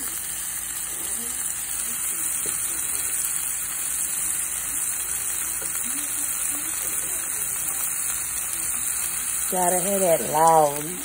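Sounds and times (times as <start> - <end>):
steak sizzling in a pan: 0.0 - 11.0.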